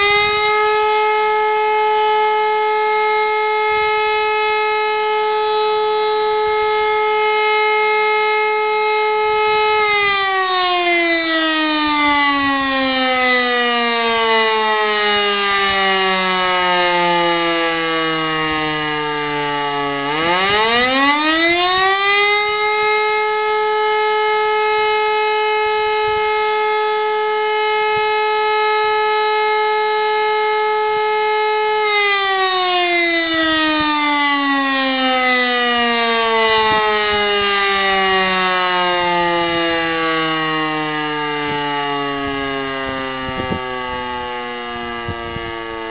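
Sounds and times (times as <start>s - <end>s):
electric motor siren wailing: 0.0s - 45.9s.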